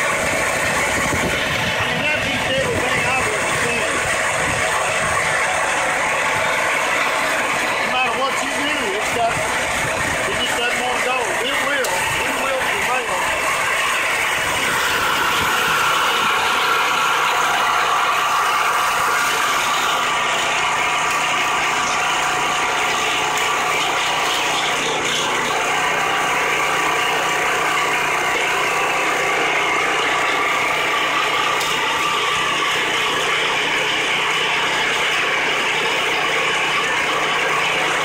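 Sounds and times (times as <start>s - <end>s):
small gas engine running: 0.0s - 38.0s.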